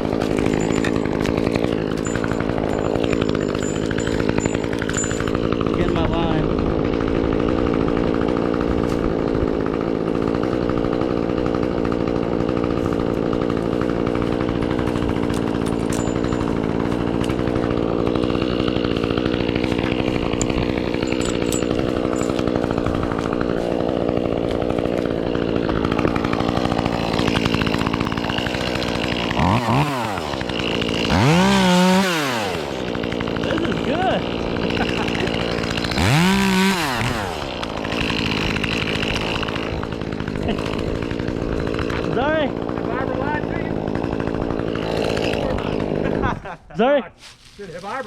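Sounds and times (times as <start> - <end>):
chainsaw idling and revving: 0.0 - 48.0.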